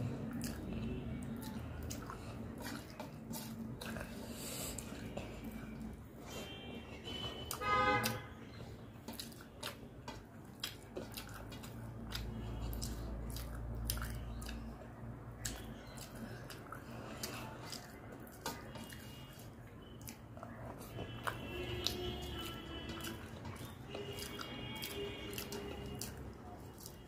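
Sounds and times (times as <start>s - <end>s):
wet chewing and lip smacks: 0.0s - 6.5s, 7.1s - 27.0s.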